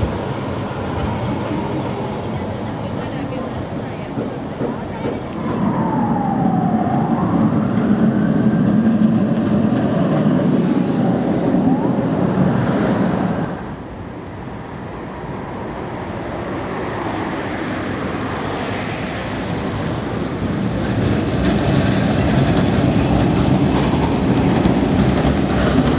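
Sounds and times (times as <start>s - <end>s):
tram rumbling past: 0.0s - 25.9s.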